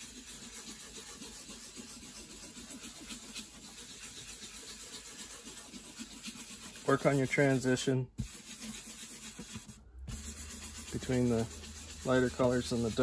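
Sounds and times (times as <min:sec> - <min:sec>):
cloth pad rubbing wood: 0:00.0 - 0:13.0.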